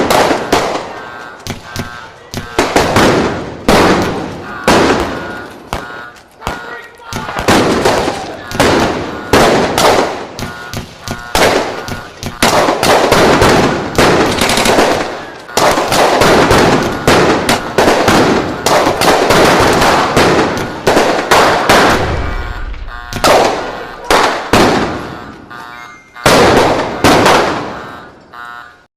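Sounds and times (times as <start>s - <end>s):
gunshot volleys: 0.0s - 5.8s, 7.2s - 25.2s, 26.2s - 27.8s.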